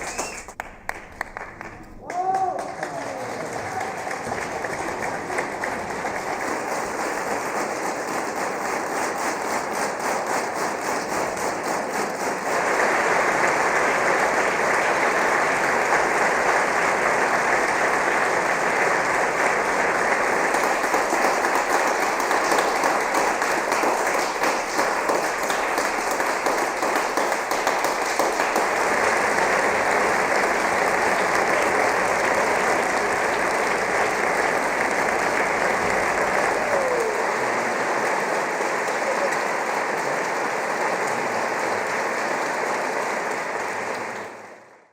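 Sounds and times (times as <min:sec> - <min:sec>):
audience applause: 0:00.0 - 0:44.9.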